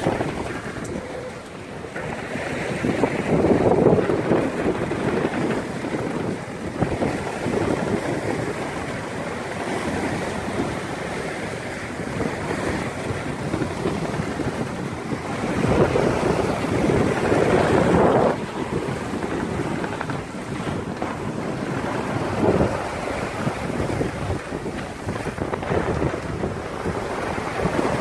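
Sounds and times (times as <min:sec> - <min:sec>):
sea water rushing past hull: 0:00.0 - 0:28.0
wind buffeting microphone: 0:00.0 - 0:28.0.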